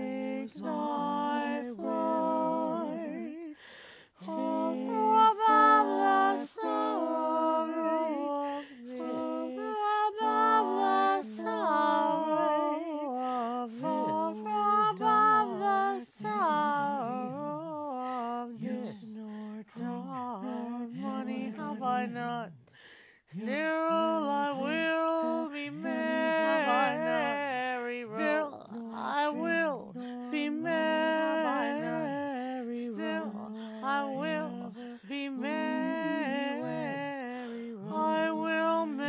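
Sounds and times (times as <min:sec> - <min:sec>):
woman singing a cappella: 0:00.0 - 0:39.0.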